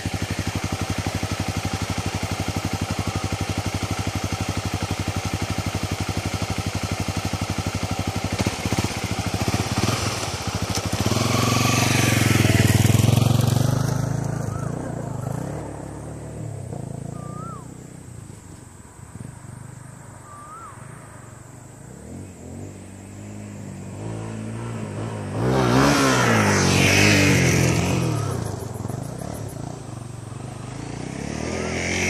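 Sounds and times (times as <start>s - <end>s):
dirt bike engine revving: 0.0s - 18.5s, 21.9s - 32.0s.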